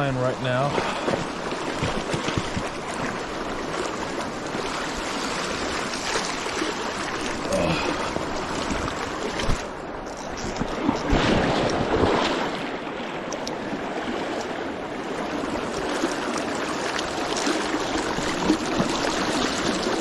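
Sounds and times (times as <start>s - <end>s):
river current rushing: 0.0s - 20.0s.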